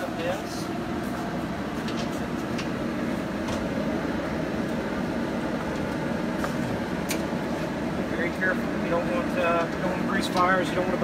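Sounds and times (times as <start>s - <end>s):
grill fan and fire rushing: 0.0s - 11.0s.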